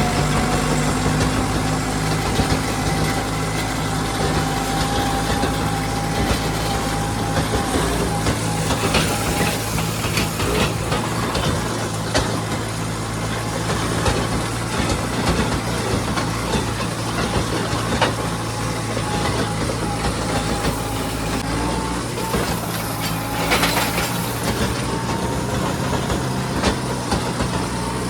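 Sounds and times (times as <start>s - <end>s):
machinery knocks and rattles: 0.0s - 27.9s
tractor engine running: 0.0s - 28.0s.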